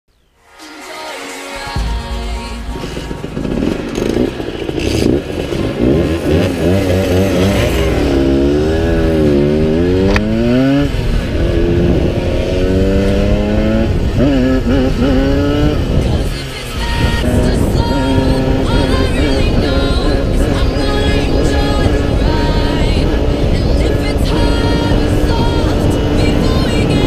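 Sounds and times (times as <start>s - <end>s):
moped engine revving: 1.7s - 27.0s.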